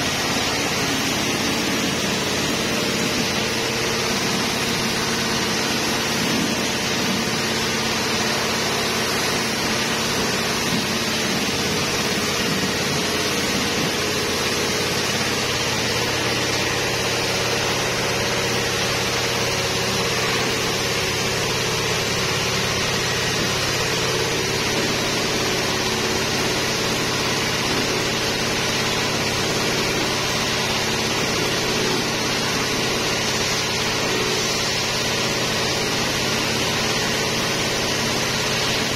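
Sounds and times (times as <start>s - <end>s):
pressure sprayer motor drone: 0.0s - 38.9s
spray jet hissing: 0.0s - 38.9s.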